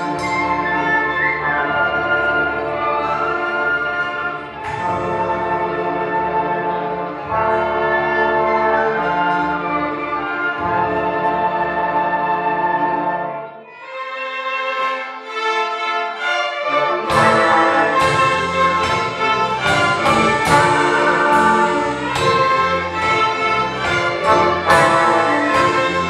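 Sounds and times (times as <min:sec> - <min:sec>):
orchestral music with brass: 0:00.0 - 0:26.0.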